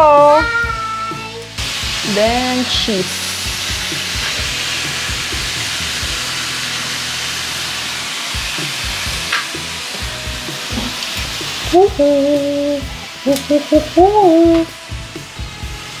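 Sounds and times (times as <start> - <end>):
faint background music: 0.0 - 16.0
meat sizzling on grill pan: 0.0 - 16.0.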